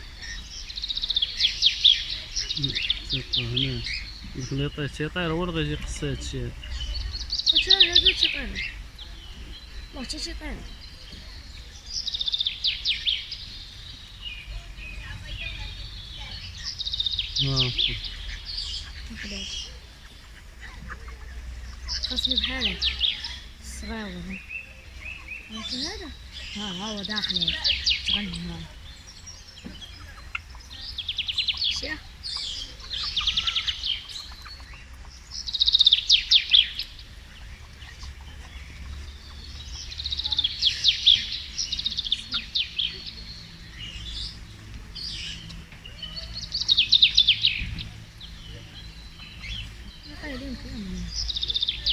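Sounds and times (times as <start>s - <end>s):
low wind rumble: 0.0s - 51.9s
songbird singing trills: 0.0s - 51.9s.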